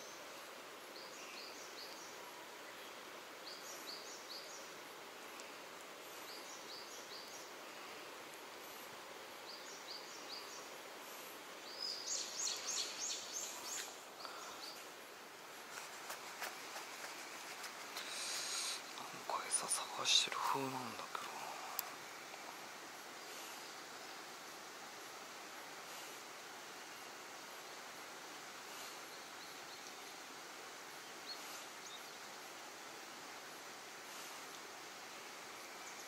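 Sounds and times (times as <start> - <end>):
small birds chirping: 0.0 - 26.3, 26.9 - 36.0
faint steady hiss: 0.0 - 36.0.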